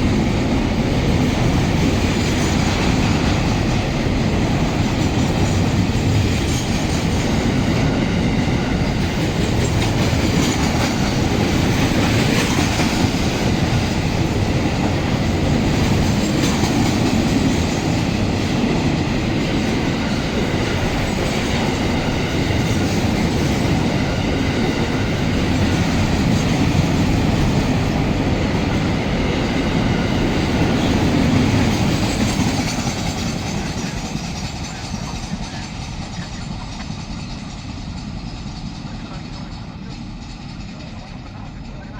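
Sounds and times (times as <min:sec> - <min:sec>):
clickety-clack over rail joints: 0:00.0 - 0:41.9
train wheels rumbling on rails: 0:00.0 - 0:41.9.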